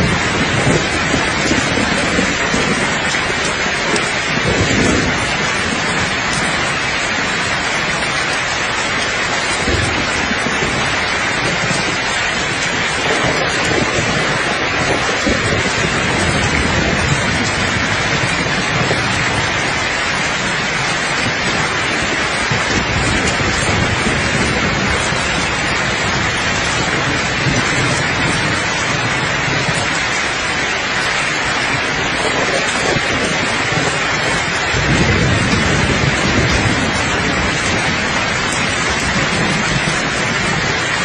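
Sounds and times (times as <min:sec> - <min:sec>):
steady rain: 0:00.0 - 0:41.0
thunder rumbling: 0:00.0 - 0:41.0.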